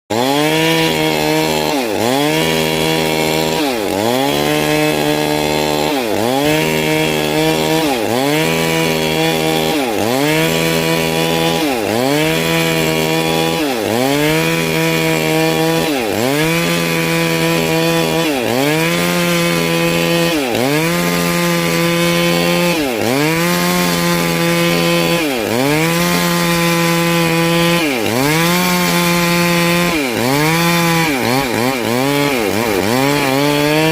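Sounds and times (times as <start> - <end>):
chainsaw cutting wood: 0.1 - 33.9.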